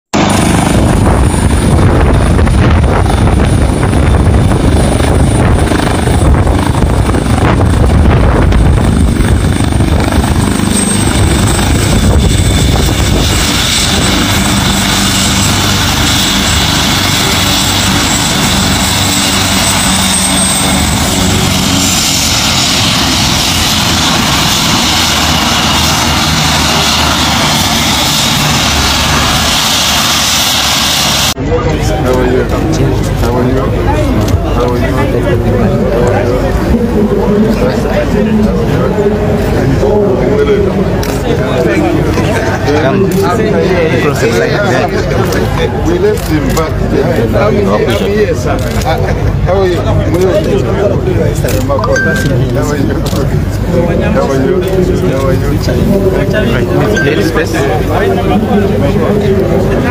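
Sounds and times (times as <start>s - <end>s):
helicopter running with high whine: 0.1s - 59.9s.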